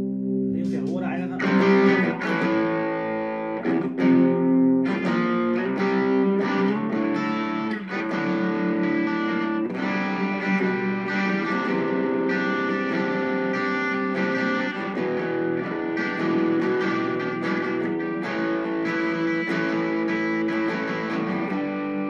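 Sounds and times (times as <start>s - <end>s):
overdriven electric guitar chords: 0.0s - 22.0s.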